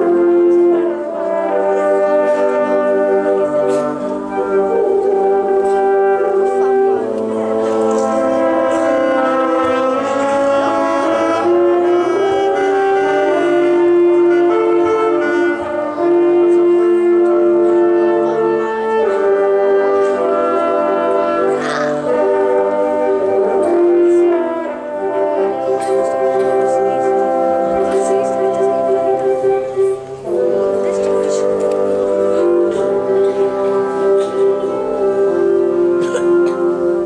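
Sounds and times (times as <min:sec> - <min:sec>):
wind ensemble playing slow chords: 0:00.0 - 0:37.0.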